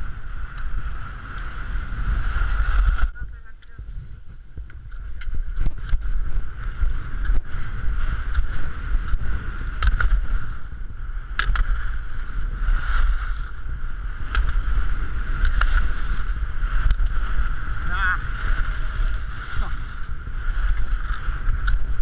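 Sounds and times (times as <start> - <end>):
skis scraping on packed snow: 0.0 - 22.0
wind rumbling on microphone: 0.0 - 22.0.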